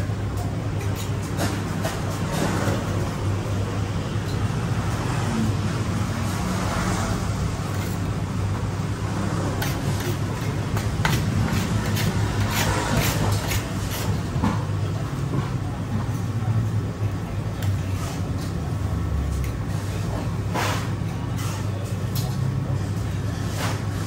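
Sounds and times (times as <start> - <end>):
road traffic rumble: 1.3 - 24.0.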